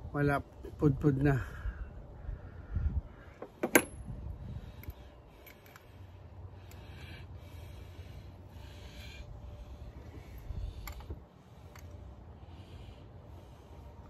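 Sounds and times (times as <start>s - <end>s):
person breathing: 1.4s - 3.5s, 4.2s - 14.0s.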